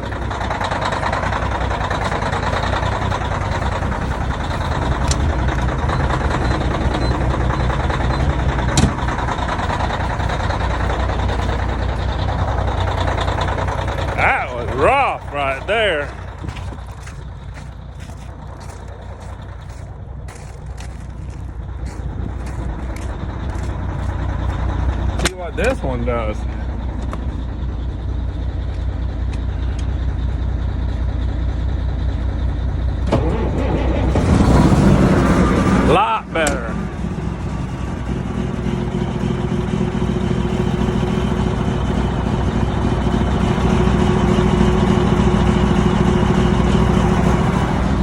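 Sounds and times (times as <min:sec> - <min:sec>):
diesel engine idling rough: 0:00.0 - 0:48.0.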